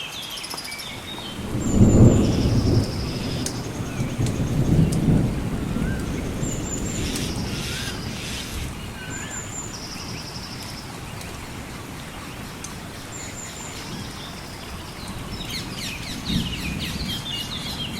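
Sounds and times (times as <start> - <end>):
birds singing and chirping: 0.0 - 11.3, 12.1 - 17.9
rain and water hiss: 0.0 - 17.9.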